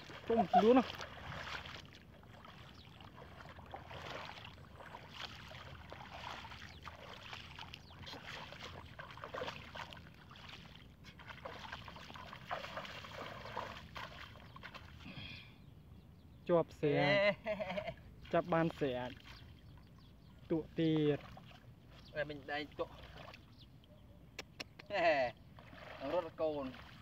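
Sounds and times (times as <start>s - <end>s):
small water splashes: 0.0s - 15.4s, 18.0s - 27.0s
feet wading through water: 0.0s - 15.7s, 17.7s - 27.0s.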